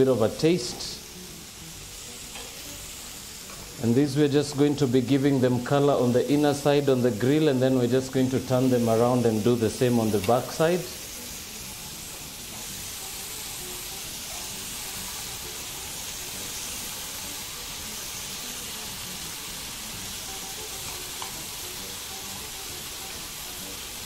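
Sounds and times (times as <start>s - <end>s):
zucchini sizzling on grill pan: 0.0s - 24.0s.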